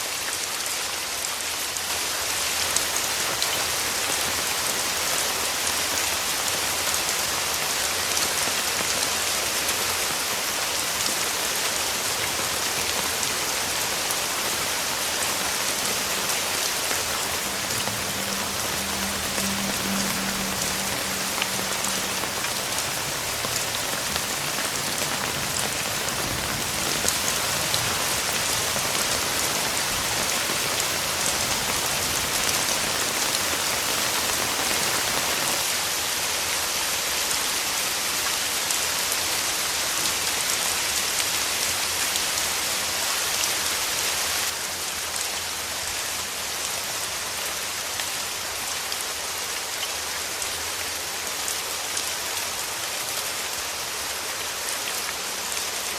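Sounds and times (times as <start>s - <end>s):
steady rain patter: 0.0s - 55.9s.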